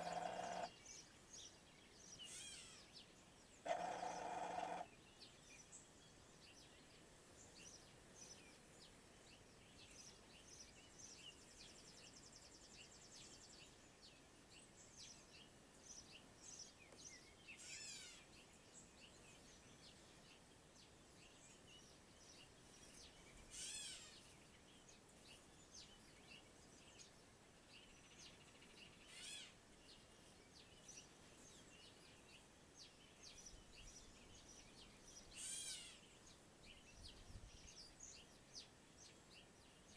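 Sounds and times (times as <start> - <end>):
faint birdsong chirps: 0.0 - 39.9.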